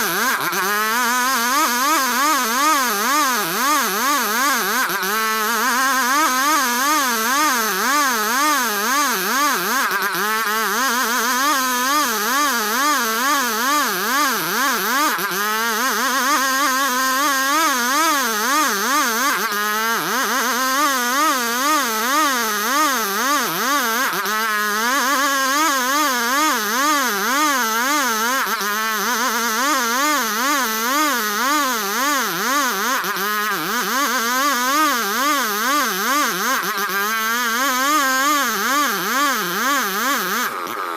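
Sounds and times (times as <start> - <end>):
engine-driven sawmill cutting wood: 0.0 - 40.9.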